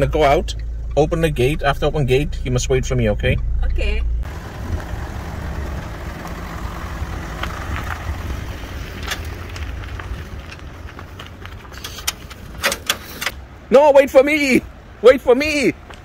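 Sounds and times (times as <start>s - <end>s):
car engine low rumble: 0.0s - 13.8s.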